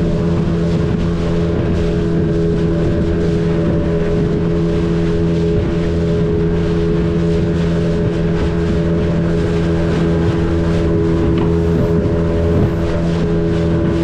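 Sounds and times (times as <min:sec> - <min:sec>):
outboard motor droning: 0:00.0 - 0:14.0
water noise: 0:00.0 - 0:14.0
wind: 0:00.0 - 0:14.0.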